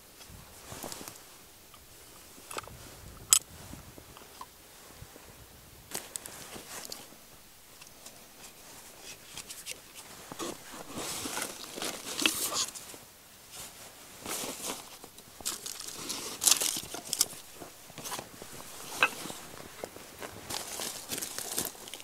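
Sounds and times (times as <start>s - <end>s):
rustling of canvas and dry grass: 0.0s - 22.0s.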